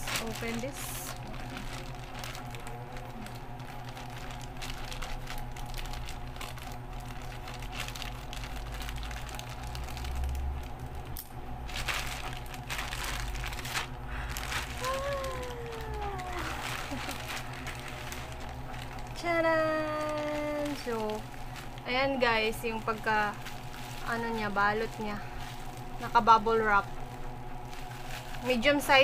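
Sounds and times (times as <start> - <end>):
plastic pouch crinkling: 0.0 - 29.0
steady low hum: 0.0 - 29.0.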